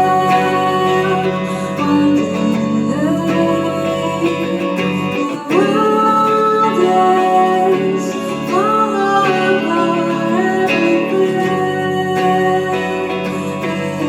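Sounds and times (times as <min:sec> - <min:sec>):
guitar chords: 0:00.0 - 0:14.0
person singing long notes: 0:00.0 - 0:14.0.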